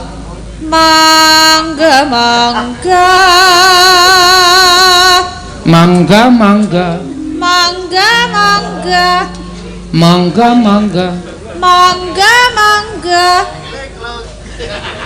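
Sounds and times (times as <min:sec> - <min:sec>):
woman singing with vibrato: 0:00.0 - 0:13.6
lower voice singing: 0:00.0 - 0:13.7.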